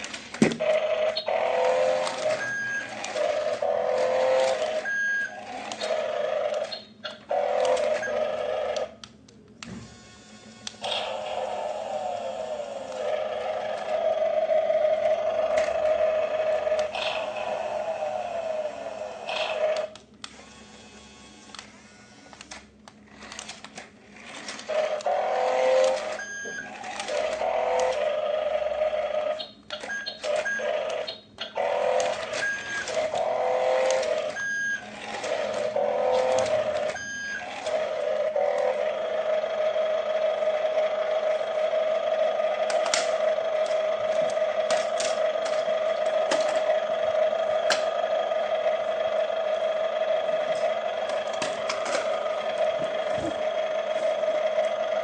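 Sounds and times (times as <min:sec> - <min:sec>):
small electric motor whining: 0:00.0 - 0:08.9, 0:09.8 - 0:29.5, 0:30.2 - 0:55.0.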